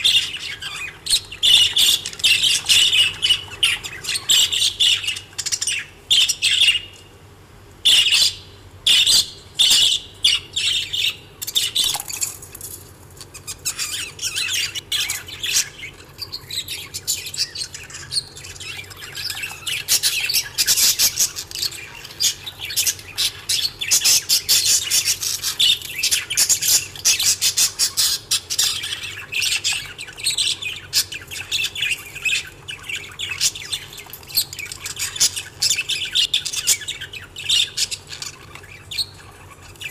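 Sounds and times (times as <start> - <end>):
parrots chirping and chattering: 0.0 - 7.2, 7.8 - 39.9.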